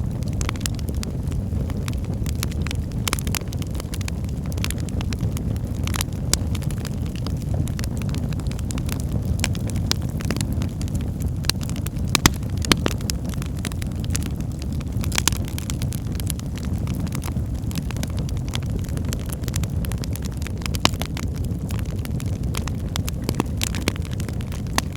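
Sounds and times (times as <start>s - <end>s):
fire rumbling and crackling: 0.0s - 24.9s
sharp popping of burning logs: 0.0s - 24.9s.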